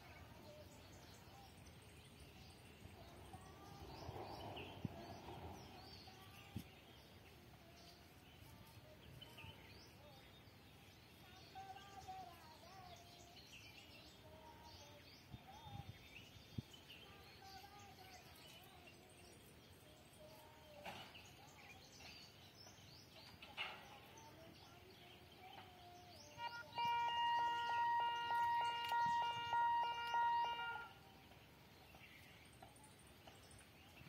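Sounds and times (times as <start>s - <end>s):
faint bird chirps and warbling: 0.0s - 34.0s.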